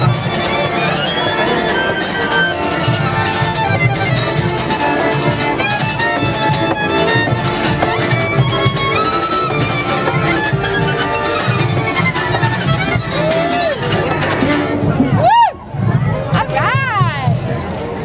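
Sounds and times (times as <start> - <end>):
cello: 0.0 - 15.2
fiddle melody: 0.0 - 16.9.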